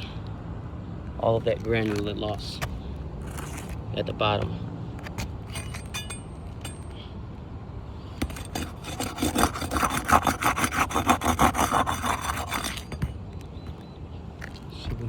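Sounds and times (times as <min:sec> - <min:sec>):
shingle scraping and crackling: 0:01.2 - 0:07.1, 0:08.1 - 0:15.0.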